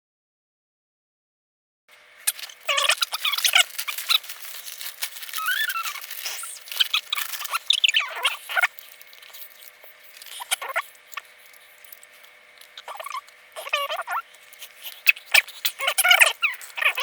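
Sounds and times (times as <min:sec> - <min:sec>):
short squeaks: 0:02.2 - 0:17.0.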